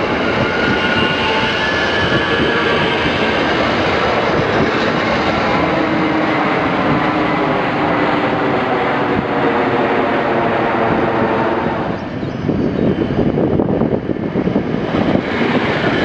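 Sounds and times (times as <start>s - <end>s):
electric train rushing and rumbling: 0.0s - 16.0s.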